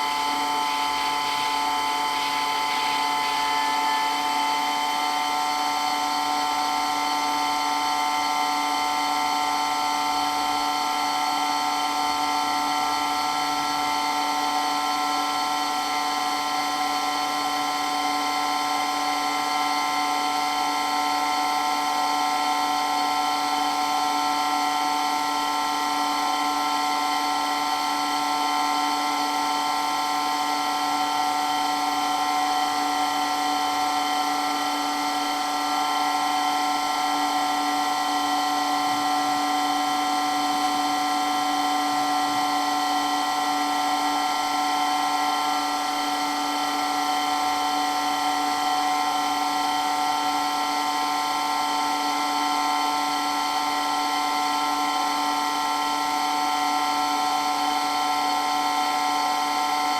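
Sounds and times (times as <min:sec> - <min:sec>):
electric water pump whining: 0:00.0 - 0:59.9.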